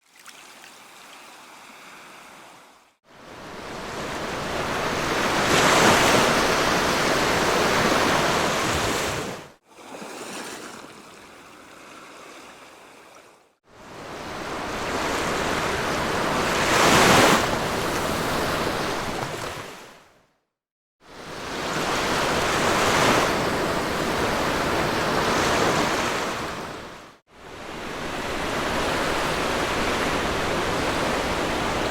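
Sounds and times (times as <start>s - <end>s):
sea waves breaking on a beach: 0.2s - 20.1s, 21.1s - 31.9s.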